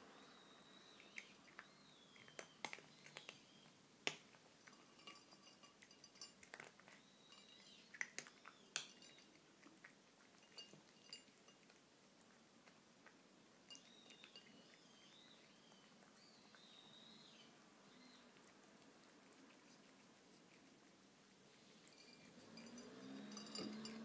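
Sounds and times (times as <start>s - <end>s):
kitten crunching kibble: 1.0s - 16.8s, 17.9s - 24.0s.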